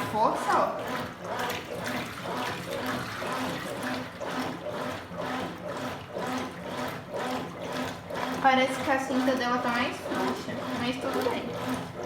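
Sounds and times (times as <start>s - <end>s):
washing machine motor hum: 0.0s - 12.0s
washing machine sloshing water: 0.0s - 12.0s.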